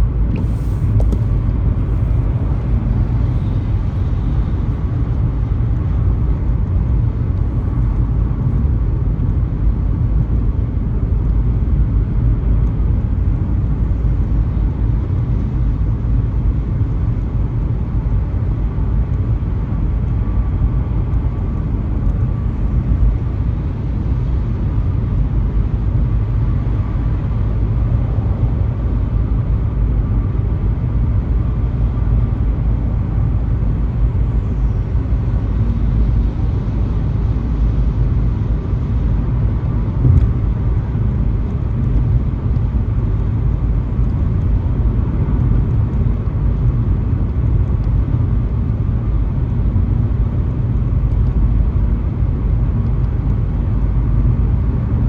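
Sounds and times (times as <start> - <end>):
car road noise on highway: 0.0 - 55.0.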